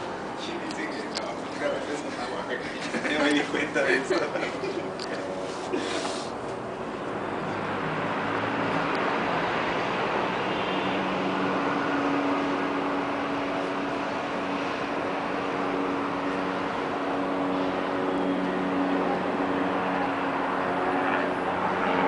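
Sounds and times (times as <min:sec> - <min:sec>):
distant city traffic: 0:00.0 - 0:22.0
low engine hum: 0:00.0 - 0:22.0.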